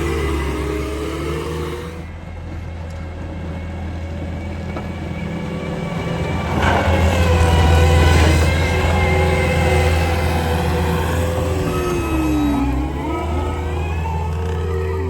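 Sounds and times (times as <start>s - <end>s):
diesel engine under load: 0.0s - 15.0s
plow pushing snow: 0.0s - 15.0s.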